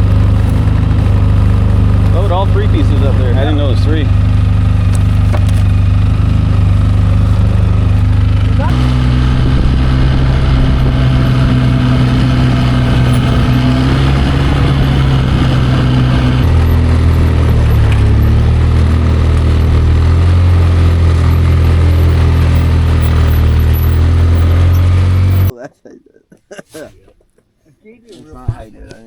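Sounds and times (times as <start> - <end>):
atv engine running: 0.0 - 25.5.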